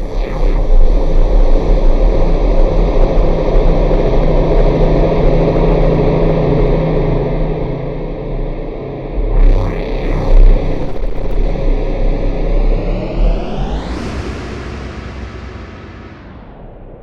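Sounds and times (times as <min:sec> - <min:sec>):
noisy electronic drone: 0:00.0 - 0:17.0.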